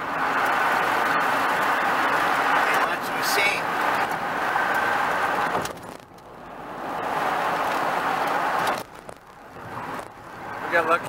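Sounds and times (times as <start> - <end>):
road and wind noise in vehicle: 0.0 - 11.0.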